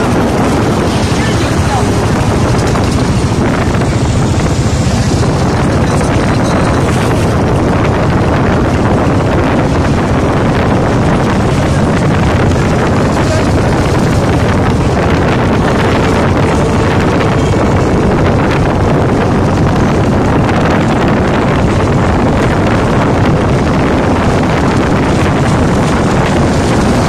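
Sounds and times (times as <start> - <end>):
motorcycle engines rumbling: 0.0 - 27.0
wind buffeting microphone: 0.0 - 27.0.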